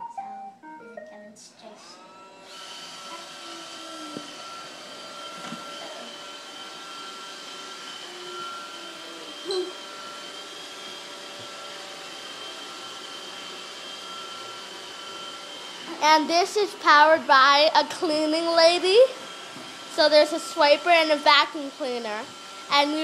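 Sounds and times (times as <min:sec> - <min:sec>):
robot vacuum cleaner humming: 0:01.6 - 0:23.0.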